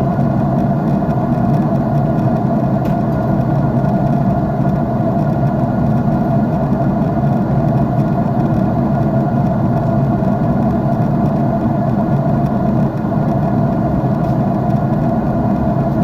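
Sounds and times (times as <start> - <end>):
jet airliner cabin noise: 0.0 - 16.0.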